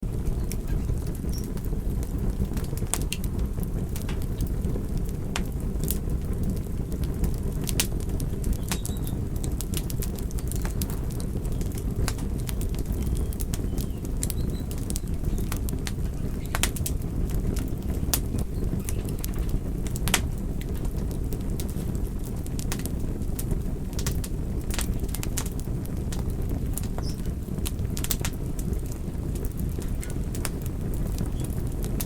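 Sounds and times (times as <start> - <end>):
fire crackling and popping: 0.0 - 32.0
low rumble of flames: 0.0 - 32.0.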